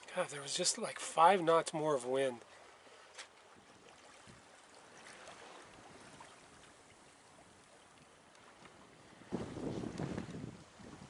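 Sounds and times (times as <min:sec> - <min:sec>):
water washing along hull: 0:00.0 - 0:11.0.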